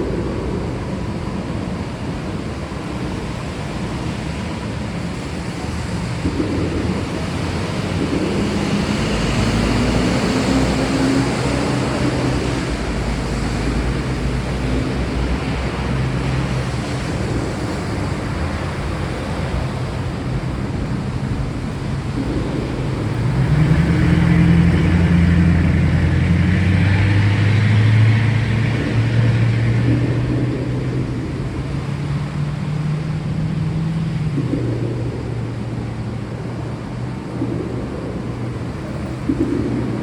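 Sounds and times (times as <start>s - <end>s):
low rumble of thunder: 0.0s - 40.0s
steady rain: 0.0s - 40.0s.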